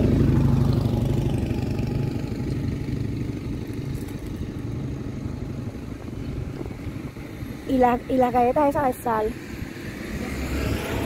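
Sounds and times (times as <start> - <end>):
vehicle engine passing by: 0.0 - 8.4, 9.3 - 11.0.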